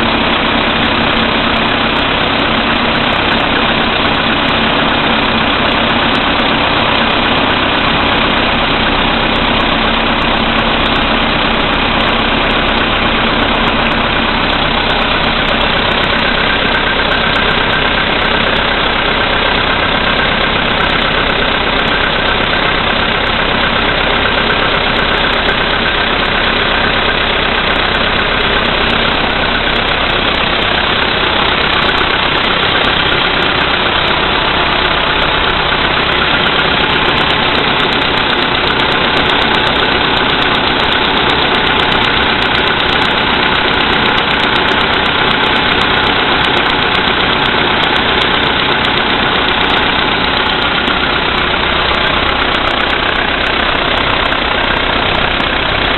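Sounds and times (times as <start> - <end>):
car engine idling: 0.0 - 55.9
engine knock: 0.0 - 55.9.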